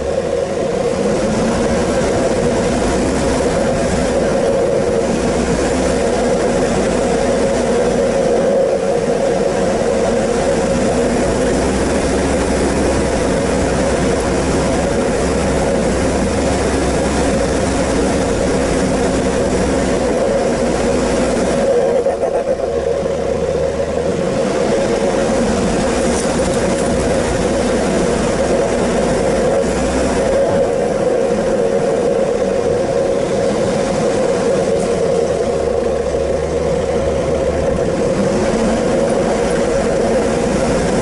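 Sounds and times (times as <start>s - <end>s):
vehicle engine under load: 0.0s - 41.0s.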